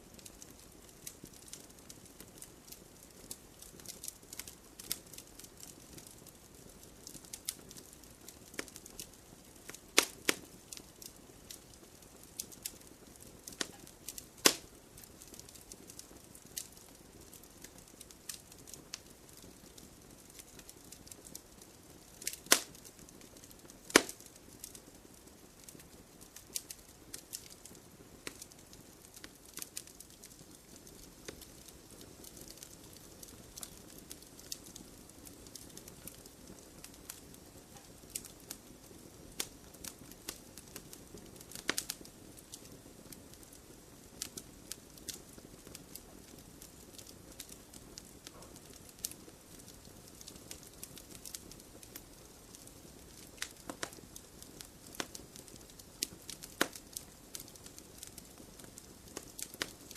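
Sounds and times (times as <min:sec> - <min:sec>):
campfire crackling and popping: 0:00.0 - 0:59.9
soft rustle of flame: 0:00.0 - 0:59.9.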